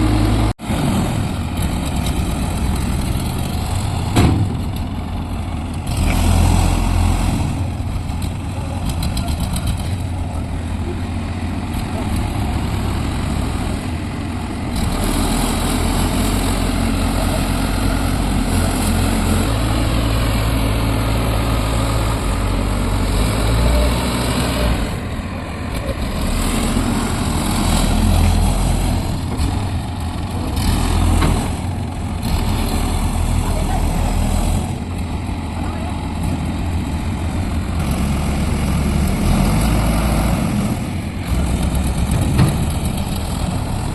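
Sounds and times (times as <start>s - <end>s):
diesel engine of heavy machine: 0.0s - 43.9s.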